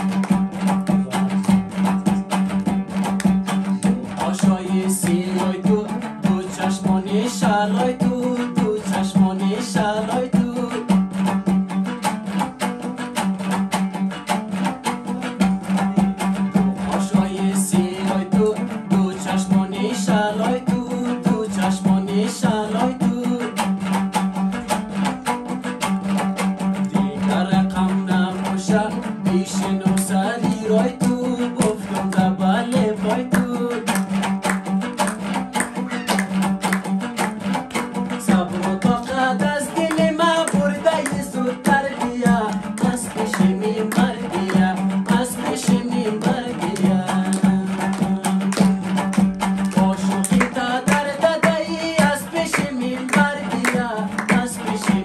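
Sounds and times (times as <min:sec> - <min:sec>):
man singing folk song: 0:00.0 - 0:55.0
strummed lute: 0:00.0 - 0:55.0.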